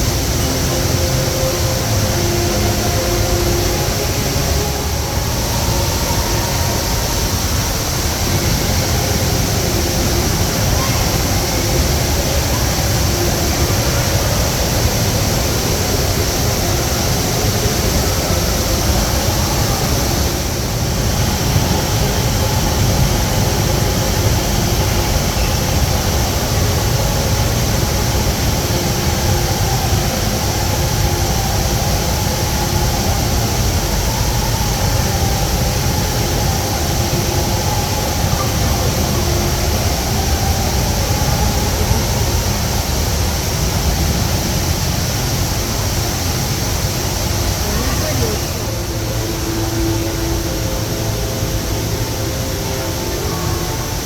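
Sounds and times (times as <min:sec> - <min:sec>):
indoor waterfall pouring: 0:00.0 - 0:54.0.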